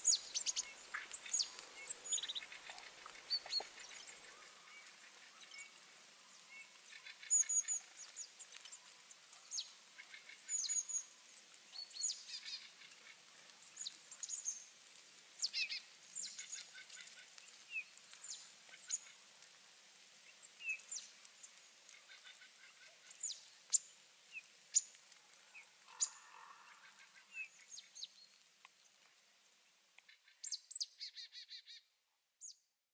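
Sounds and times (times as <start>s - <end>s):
small birds chirping: 0.0s - 19.5s, 20.1s - 32.6s.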